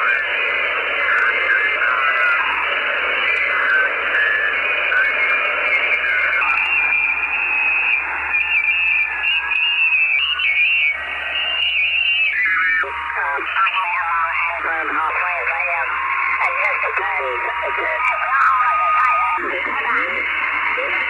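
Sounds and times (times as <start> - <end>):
radio static hiss: 0.0 - 21.0
whistling radio tones: 0.0 - 21.0.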